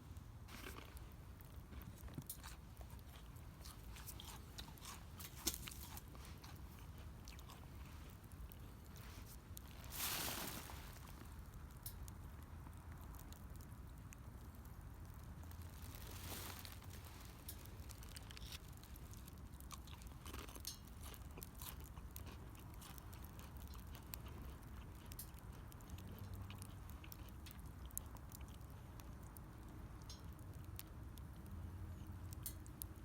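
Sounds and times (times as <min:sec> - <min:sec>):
low steady rumble: 0:00.0 - 0:33.0
wood fire crackling: 0:00.0 - 0:33.0.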